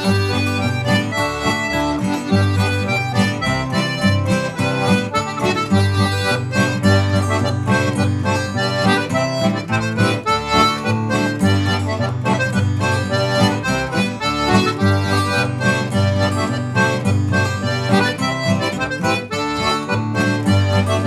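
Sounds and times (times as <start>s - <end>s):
guitar accompaniment: 0.0s - 21.0s
melodeon folk tune: 0.0s - 21.0s.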